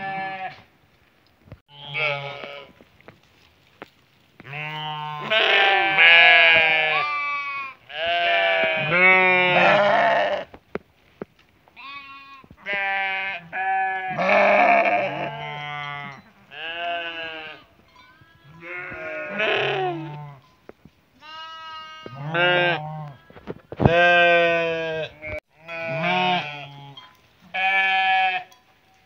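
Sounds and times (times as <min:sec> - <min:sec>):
sheep bleating: 0:00.0 - 0:00.6, 0:01.7 - 0:02.7, 0:04.4 - 0:10.5, 0:11.8 - 0:20.4, 0:21.2 - 0:28.6.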